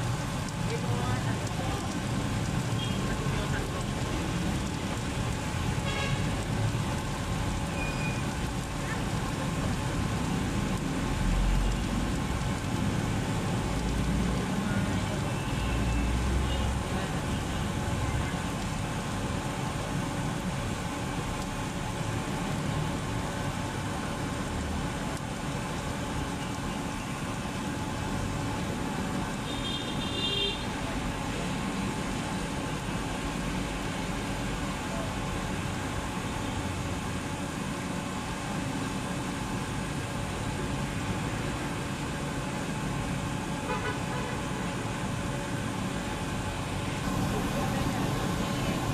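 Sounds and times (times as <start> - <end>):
low traffic rumble: 0.0 - 48.9.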